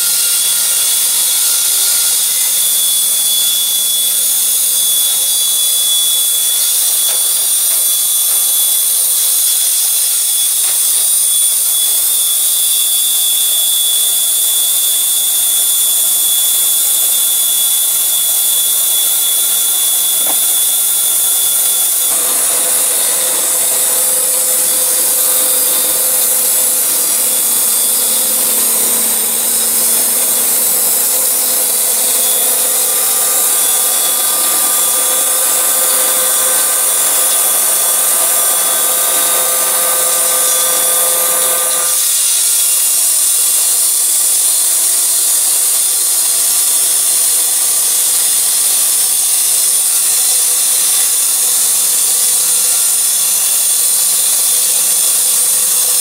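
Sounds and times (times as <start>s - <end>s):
band saw cutting through log: 0.0s - 56.0s.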